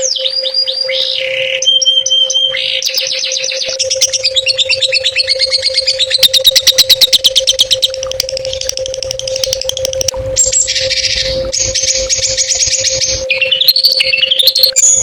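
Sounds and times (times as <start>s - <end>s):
songbird singing trills: 0.0s - 15.0s
steady low hum: 0.0s - 15.0s.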